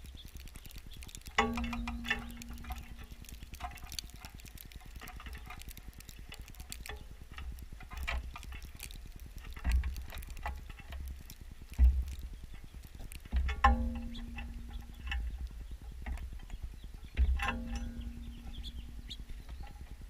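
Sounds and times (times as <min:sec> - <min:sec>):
birds pecking at feeder: 0:00.0 - 0:20.0
low rumble: 0:00.0 - 0:20.0.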